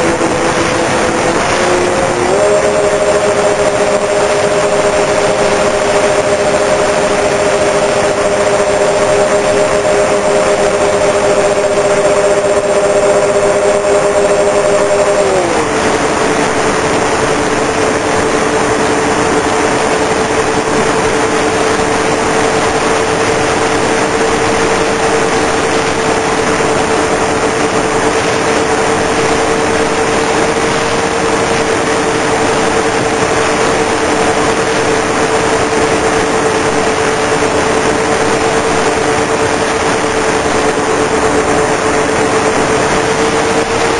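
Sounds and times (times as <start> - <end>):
electric motors and propellers whirring: 0.0 - 43.9
wind rush on microphone: 0.0 - 43.9.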